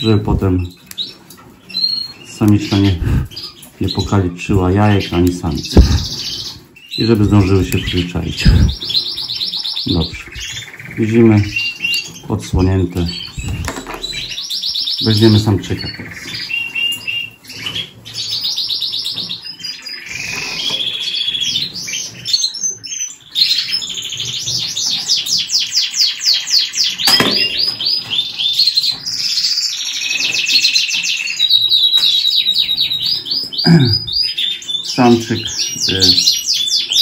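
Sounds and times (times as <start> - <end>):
canaries singing trills: 0.0 - 37.0.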